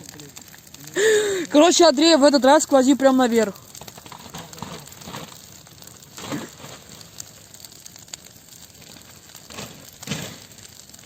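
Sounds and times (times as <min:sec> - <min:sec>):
dry branches rustling and crackling: 0:00.0 - 0:11.0.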